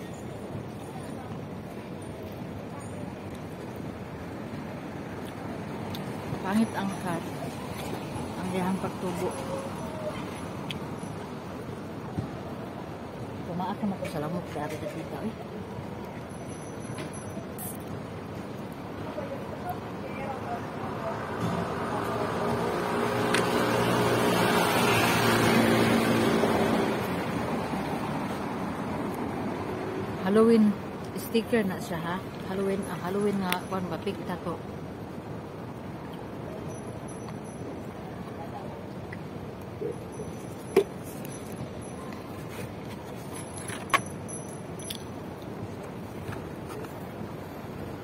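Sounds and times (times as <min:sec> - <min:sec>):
city traffic hum: 0:00.0 - 0:48.0.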